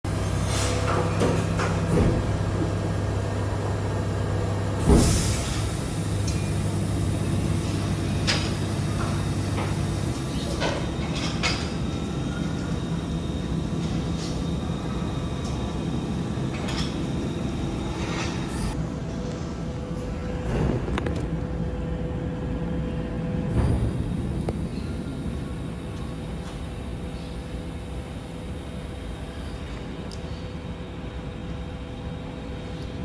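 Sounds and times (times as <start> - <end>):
garbage truck machinery humming: 0.1 - 33.0.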